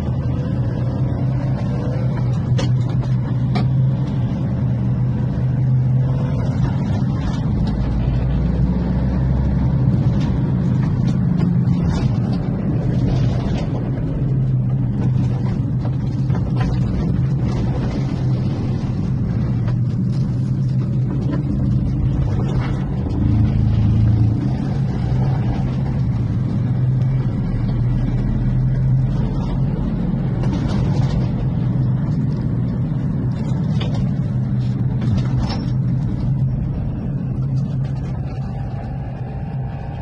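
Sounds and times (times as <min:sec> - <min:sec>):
small truck engine humming: 0:00.0 - 0:40.0.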